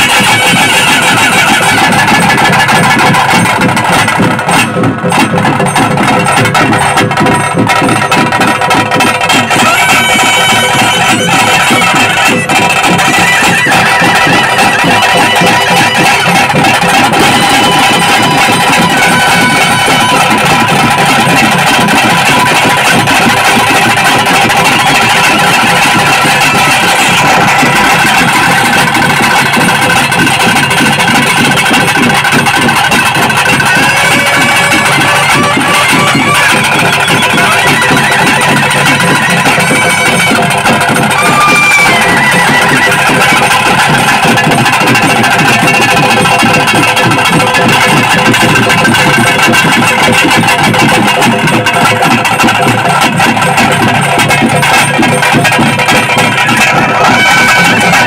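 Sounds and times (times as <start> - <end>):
fast continuous drumming: 0.0 - 58.0
shrill double-reed pipe: 0.0 - 58.0.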